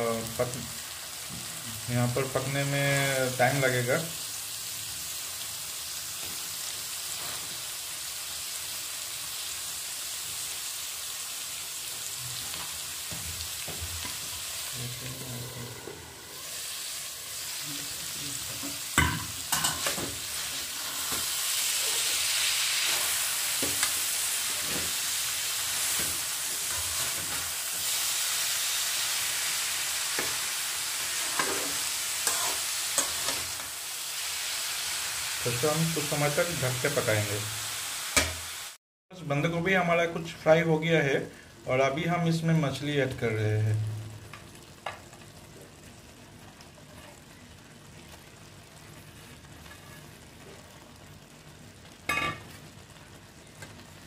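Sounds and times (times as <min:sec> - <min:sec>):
cabbage sizzling in oil: 0:00.0 - 0:38.8, 0:40.8 - 0:54.0.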